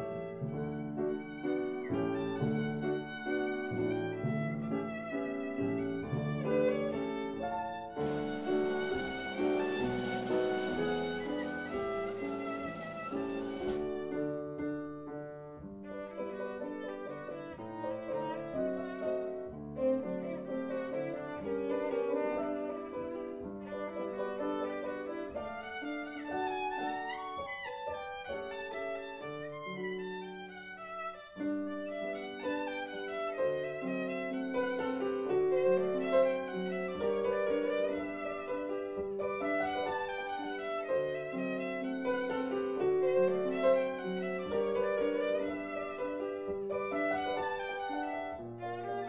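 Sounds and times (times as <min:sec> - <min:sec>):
violin playing flowing melody: 0:00.0 - 0:14.7, 0:15.6 - 0:49.0.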